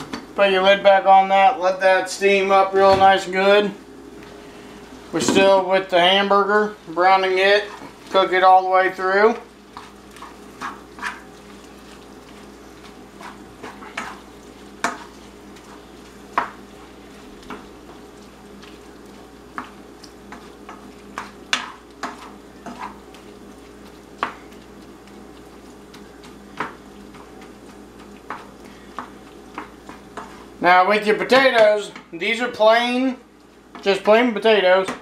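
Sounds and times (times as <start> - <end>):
meat sizzling: 0.0 - 35.0
wooden spoon scraping a pan: 4.7 - 33.0.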